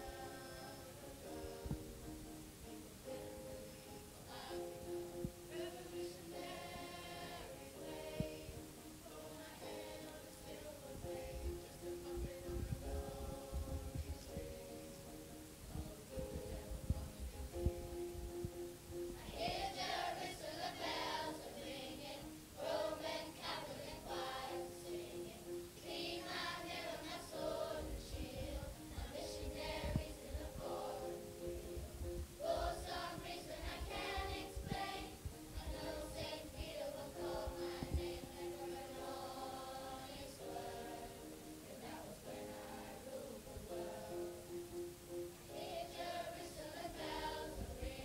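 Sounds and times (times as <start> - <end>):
children's choir singing: 0.0 - 2.2, 3.0 - 17.8, 19.0 - 48.0.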